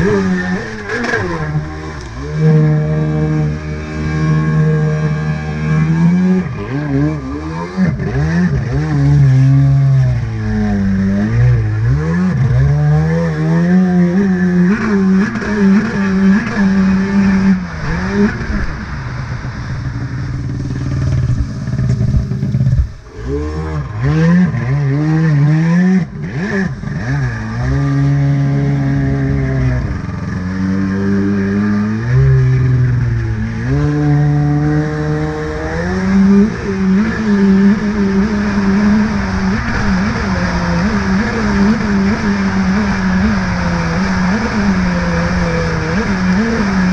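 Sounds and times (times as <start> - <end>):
jet ski engine revving: 0.0 - 46.9.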